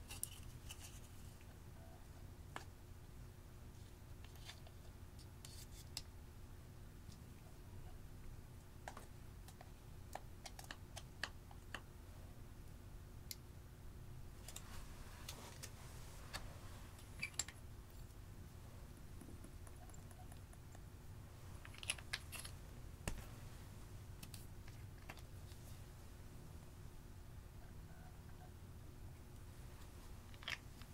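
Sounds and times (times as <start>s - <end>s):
faint low hum: 0.0s - 30.9s.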